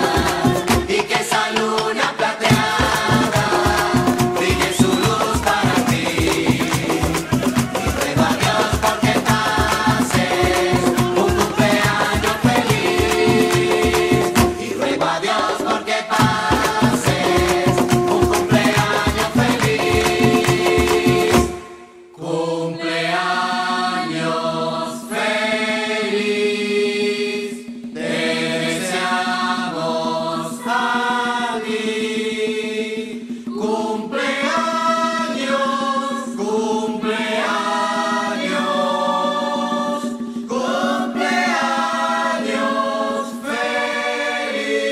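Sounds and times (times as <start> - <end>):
chant-like singing: 0.0 - 44.9.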